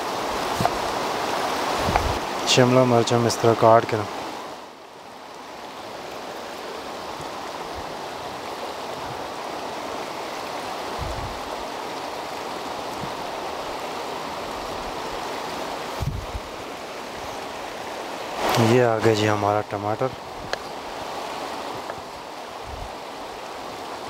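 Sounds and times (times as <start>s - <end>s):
steady rushing noise: 0.0s - 4.9s, 5.5s - 24.0s.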